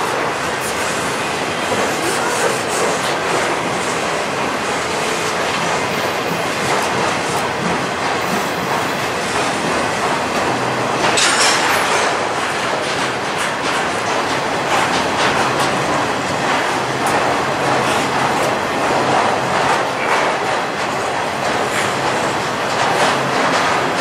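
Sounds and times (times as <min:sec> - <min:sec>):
train rumbling past: 0:00.0 - 0:24.0
wheels clicking over rail joints: 0:00.0 - 0:24.0.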